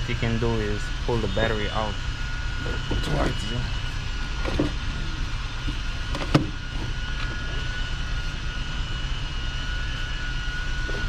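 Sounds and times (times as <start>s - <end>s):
steady low rumble: 0.0s - 10.0s
faint high whine: 0.0s - 11.0s.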